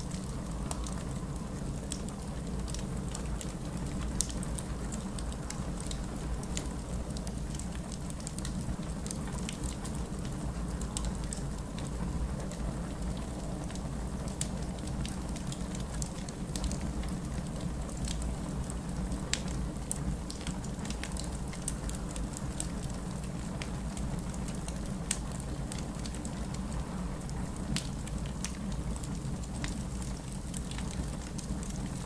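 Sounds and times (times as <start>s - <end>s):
low rumble of fire: 0.0s - 32.0s
wood fire crackling: 0.0s - 32.0s.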